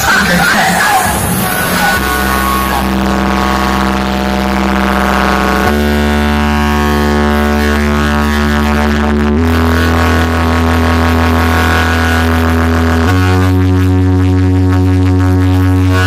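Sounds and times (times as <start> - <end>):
buzzing bass synth note: 0.0 - 16.0.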